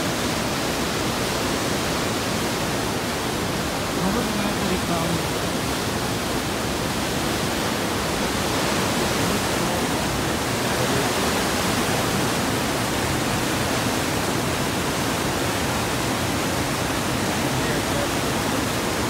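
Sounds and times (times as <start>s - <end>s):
river rushing over boulders: 0.0s - 19.0s.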